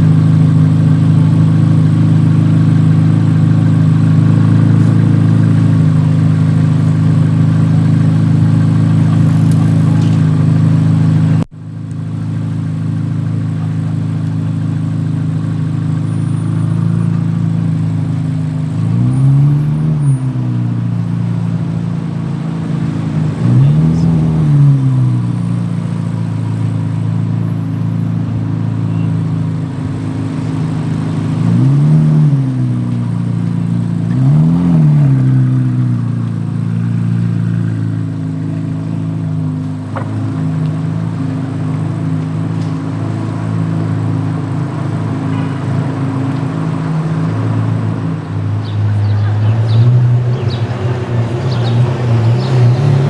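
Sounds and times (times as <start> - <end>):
car engine idling: 0.0 - 53.0
engine throttle blips: 0.0 - 53.0.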